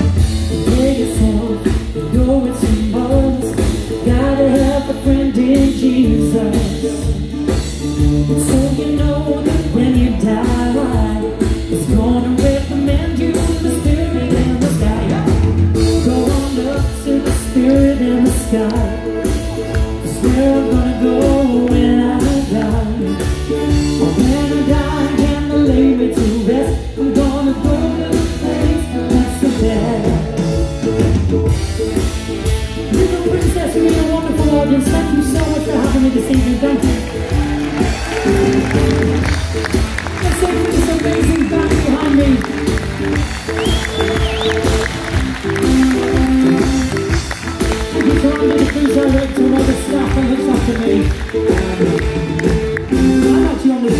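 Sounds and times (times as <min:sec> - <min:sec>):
man singing lead vocal: 0:00.0 - 0:31.1, 0:32.8 - 0:53.9
bass: 0:00.0 - 0:53.9
drum beat: 0:00.0 - 0:53.9.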